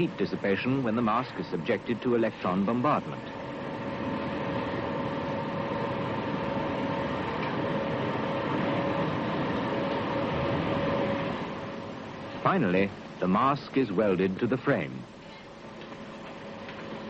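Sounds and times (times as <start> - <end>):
machinery hum: 0.0 - 17.0.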